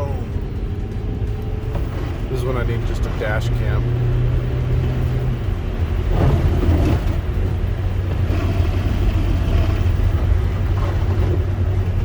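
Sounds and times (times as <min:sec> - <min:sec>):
car interior rumble: 0:00.0 - 0:12.0
tyres rushing through snow: 0:01.6 - 0:12.0.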